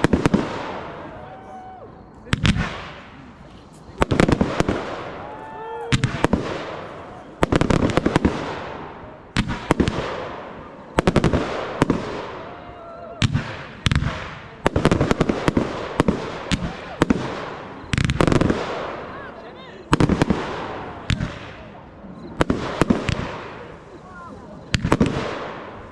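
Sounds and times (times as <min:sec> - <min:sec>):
fireworks bursting with sharp bangs: 0:00.0 - 0:25.9.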